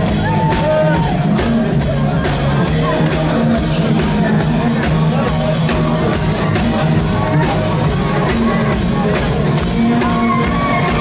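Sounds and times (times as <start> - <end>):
live pop band music: 0.0 - 11.0
man singing: 0.0 - 11.0.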